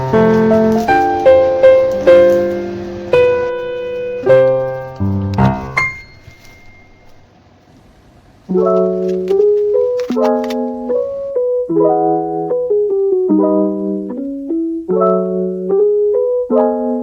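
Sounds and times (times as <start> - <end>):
soft piano chords: 0.0 - 7.4, 8.4 - 17.0.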